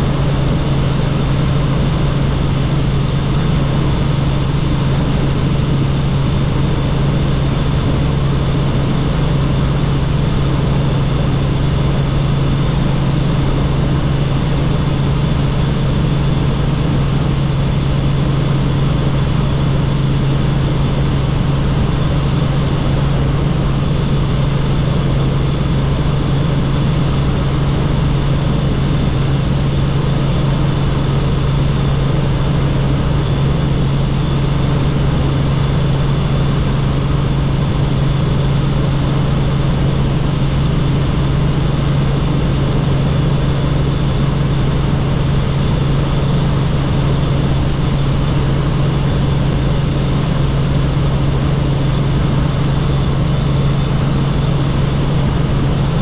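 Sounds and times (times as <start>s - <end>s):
helicopter drone: 0.0s - 56.0s.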